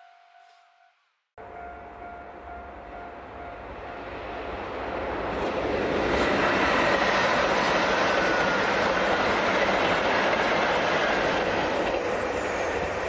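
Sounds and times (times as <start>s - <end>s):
diesel train passing at speed: 1.4s - 13.0s.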